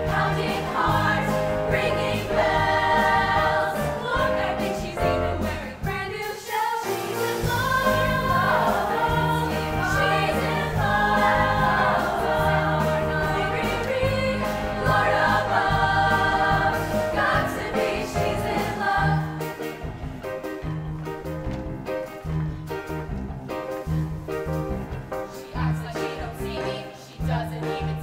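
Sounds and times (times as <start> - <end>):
instrumental accompaniment with bass: 0.0 - 6.2, 7.0 - 28.0
women's choir singing in harmony: 0.0 - 19.9, 25.2 - 28.0.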